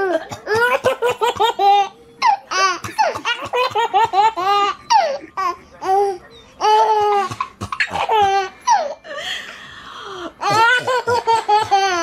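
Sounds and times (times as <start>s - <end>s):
baby laughing: 0.0s - 9.0s, 10.4s - 12.0s.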